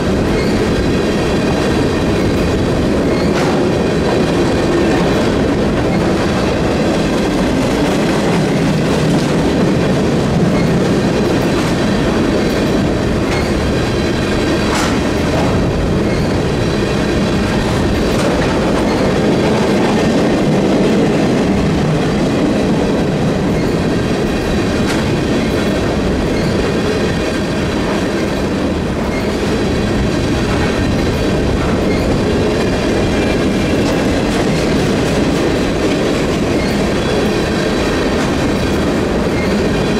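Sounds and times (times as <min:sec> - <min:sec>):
train wheels rattling on rails: 0:00.0 - 0:39.9.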